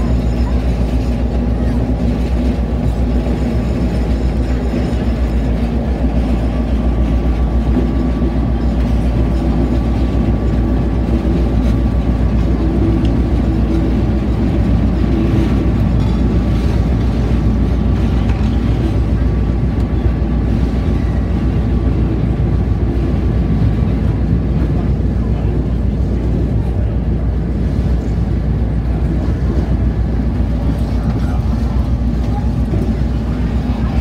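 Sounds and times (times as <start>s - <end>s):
locomotive diesel engine rumble: 0.0s - 34.0s
wheels on rail: 0.0s - 34.0s.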